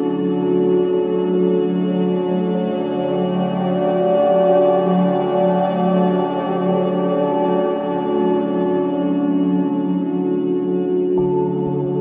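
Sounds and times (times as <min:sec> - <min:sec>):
sustained chord music: 0:00.0 - 0:12.0.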